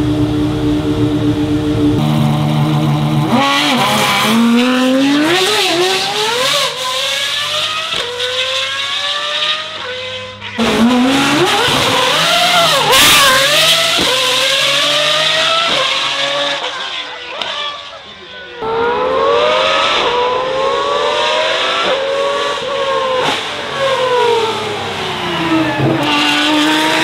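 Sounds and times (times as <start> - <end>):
sports car engine accelerating hard: 0.0 - 27.0.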